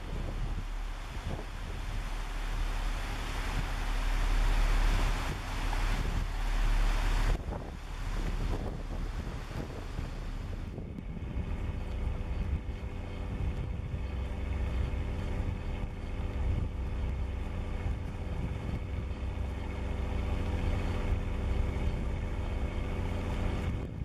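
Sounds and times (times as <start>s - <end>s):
ship engine droning: 0.0s - 24.0s.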